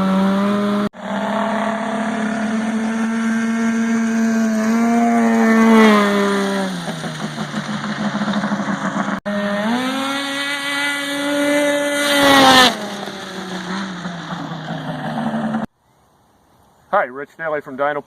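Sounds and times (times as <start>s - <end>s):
snowmobile engine revving: 0.0s - 15.7s.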